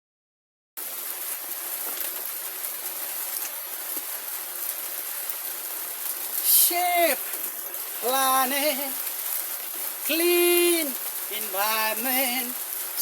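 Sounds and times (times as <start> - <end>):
rushing water: 0.8 - 13.0.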